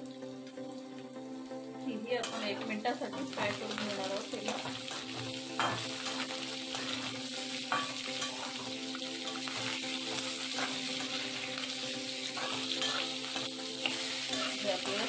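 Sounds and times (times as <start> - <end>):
vegetables sizzling in oil: 0.0 - 15.0
spatula scraping a pan: 2.2 - 15.0.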